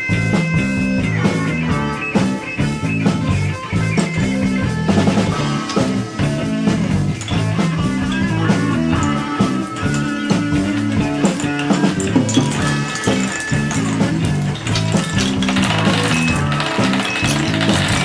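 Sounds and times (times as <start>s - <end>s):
rock music: 0.0s - 18.0s.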